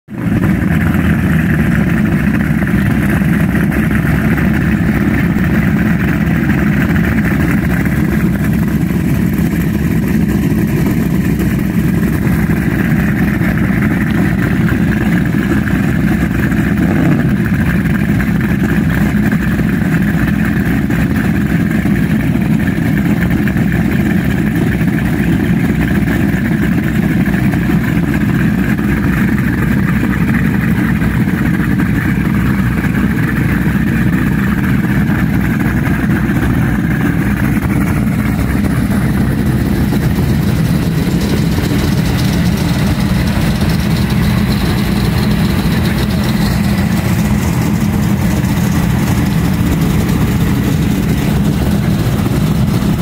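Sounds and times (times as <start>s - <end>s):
powerboat engines idling: 0.1s - 53.0s.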